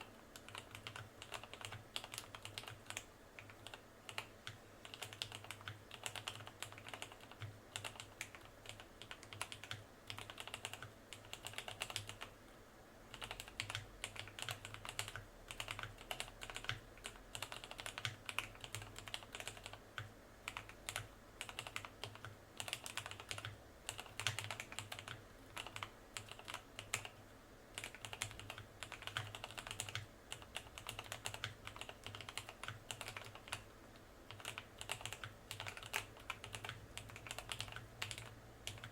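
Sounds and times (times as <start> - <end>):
mechanical keyboard typing: 0.0 - 12.4, 13.1 - 33.7, 34.3 - 38.9.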